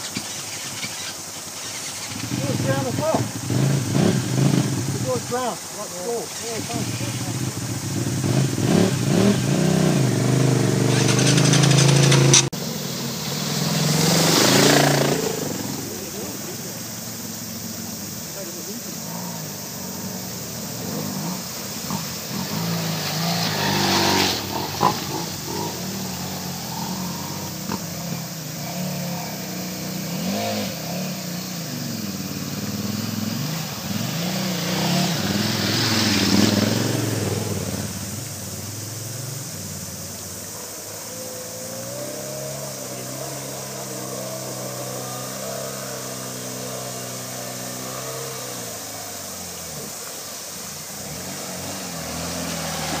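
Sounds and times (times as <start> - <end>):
dirt bike engine revving: 0.0 - 53.0
stream water rushing: 0.0 - 53.0.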